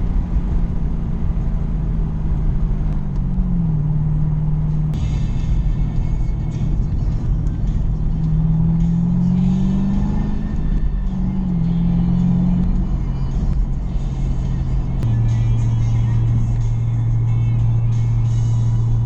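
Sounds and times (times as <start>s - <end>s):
background music with low bass: 0.0s - 19.0s.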